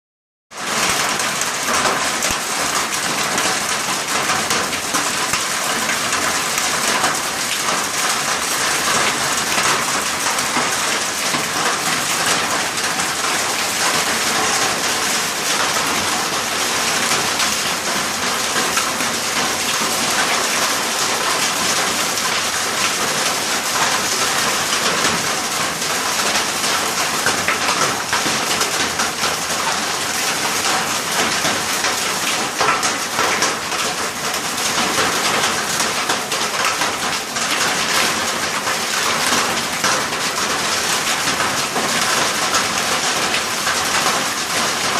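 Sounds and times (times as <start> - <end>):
hail and rain pelting down: 0.5 - 44.9.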